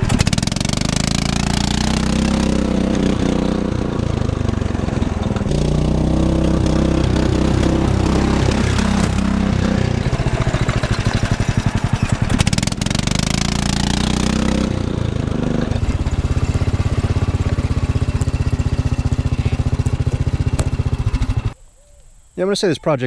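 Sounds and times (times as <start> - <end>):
engine sputtering under load: 0.0 - 21.6
loud exhaust: 0.0 - 21.6.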